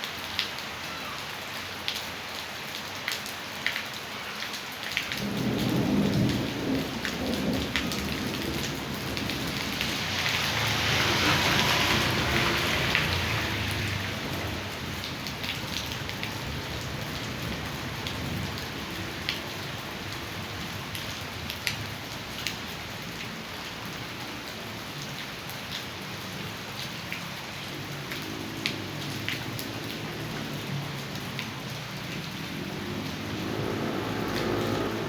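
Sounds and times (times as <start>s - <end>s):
heavy rain falling: 0.0s - 35.0s
rainwater running: 0.0s - 35.0s.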